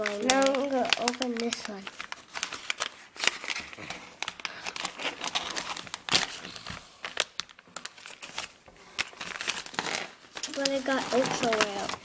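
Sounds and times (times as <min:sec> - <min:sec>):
plastic bag crinkling and tearing: 0:00.0 - 0:12.0.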